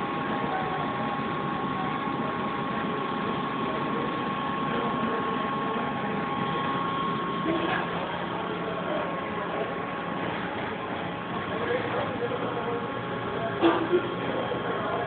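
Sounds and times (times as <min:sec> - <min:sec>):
drink dispenser humming: 0:00.0 - 0:15.0.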